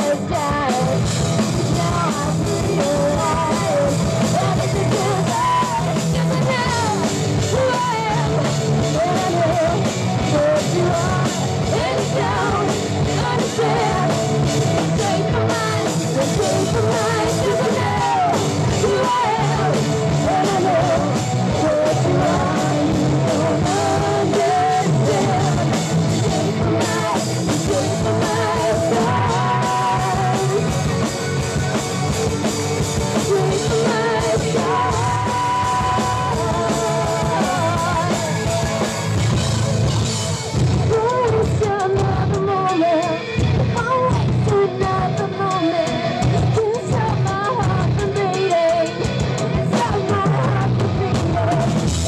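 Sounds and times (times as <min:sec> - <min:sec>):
person singing: 0:00.0 - 0:31.4, 0:33.0 - 0:39.0, 0:40.8 - 0:52.0
live rock band playing loud: 0:00.0 - 0:52.0.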